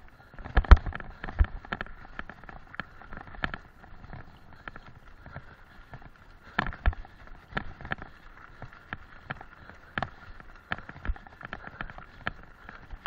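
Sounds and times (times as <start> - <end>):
bicycle frame rattling: 0.0 - 13.0.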